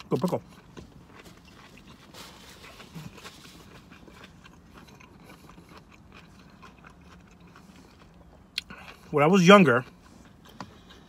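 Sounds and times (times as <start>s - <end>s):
chewing crunches: 0.0s - 11.0s.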